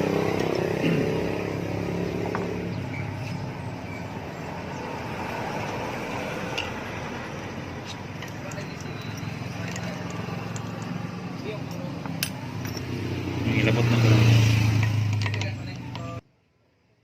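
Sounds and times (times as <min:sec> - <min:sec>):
vehicle engine running: 0:00.0 - 0:16.2.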